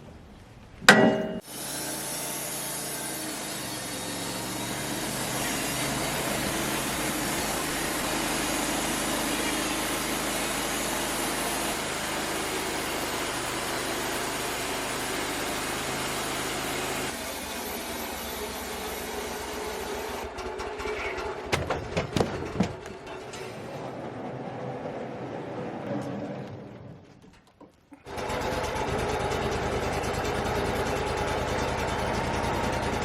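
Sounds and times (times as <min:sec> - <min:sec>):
sawmill engine running: 0:01.2 - 0:25.8, 0:28.1 - 0:33.0.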